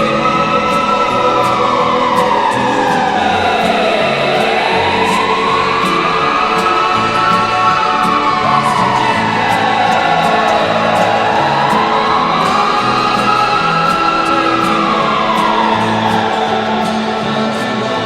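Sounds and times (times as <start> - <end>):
long sweeping tone: 0.0 - 18.0.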